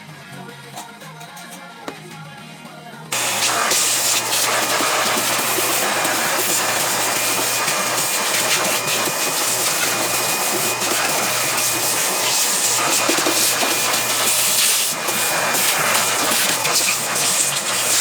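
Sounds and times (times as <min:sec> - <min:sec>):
aerosol spray paint hissing: 0:03.2 - 0:18.0.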